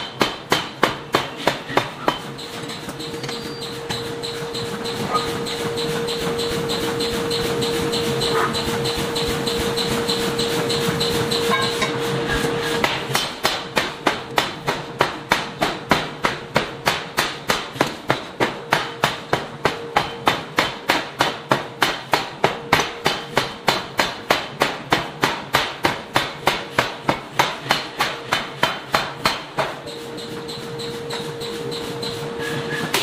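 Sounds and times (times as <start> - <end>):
forging hammer striking metal: 0.0 - 31.9.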